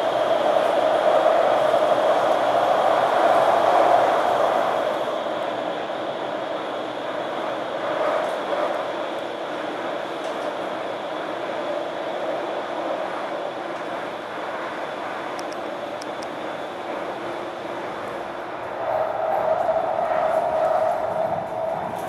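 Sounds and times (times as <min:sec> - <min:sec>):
train rushing rumble: 0:00.0 - 0:22.0.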